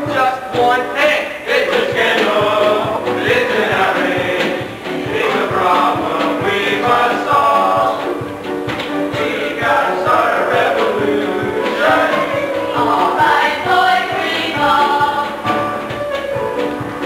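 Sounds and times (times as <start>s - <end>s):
chorus singing a show tune: 0.0s - 17.0s.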